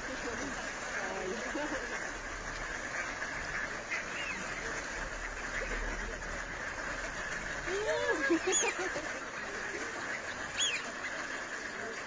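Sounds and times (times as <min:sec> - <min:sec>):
faint waterfowl calls: 0:00.0 - 0:12.0
steady background noise: 0:00.0 - 0:12.0.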